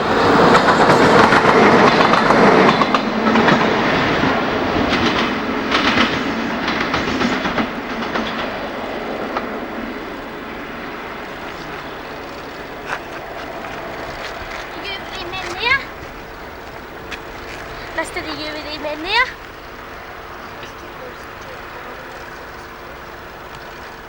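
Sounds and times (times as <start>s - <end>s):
diesel freight train passing: 0.0s - 24.0s
wagon wheels clattering over rail joints: 0.0s - 24.0s.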